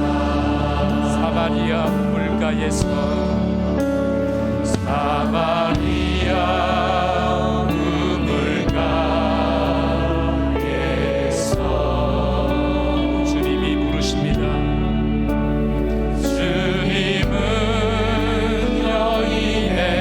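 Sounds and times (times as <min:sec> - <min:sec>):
praise band playing: 0:00.0 - 0:20.0.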